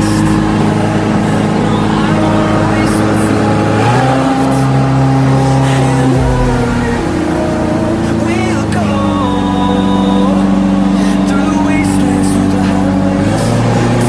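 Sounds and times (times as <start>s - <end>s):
aircraft engine and propeller: 0.0s - 14.0s.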